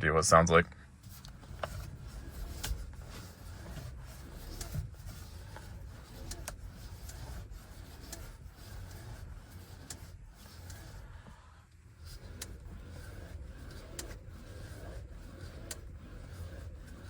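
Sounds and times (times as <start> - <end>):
steering column clicking: 1.0 - 17.0
low rubbing creak: 1.1 - 17.0.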